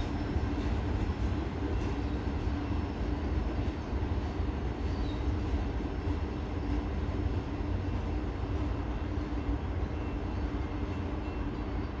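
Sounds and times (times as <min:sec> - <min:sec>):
freight train cars rumbling: 0:00.0 - 0:12.0.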